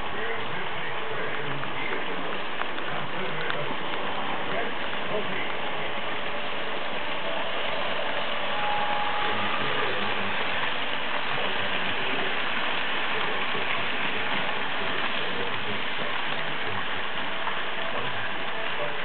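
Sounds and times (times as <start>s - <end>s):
model train motors whirring: 0.0s - 19.0s
wheels rattling on rails: 0.0s - 19.0s.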